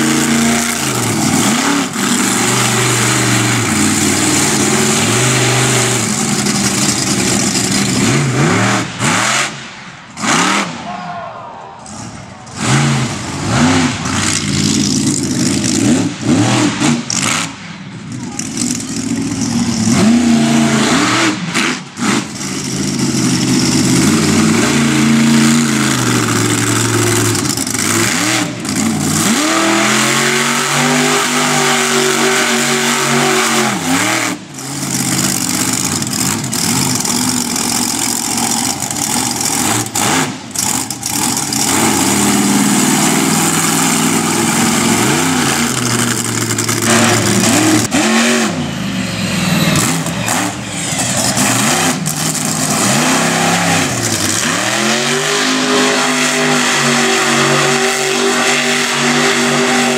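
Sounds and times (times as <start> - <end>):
monster truck engine revving: 0.0 - 11.2, 11.8 - 59.9.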